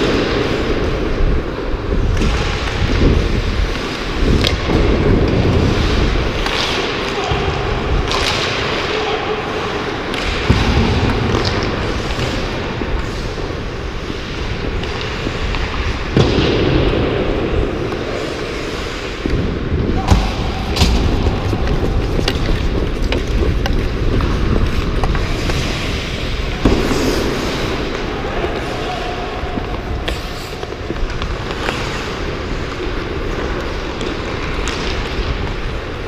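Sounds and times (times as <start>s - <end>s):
skate blades on ice: 0.0s - 36.0s.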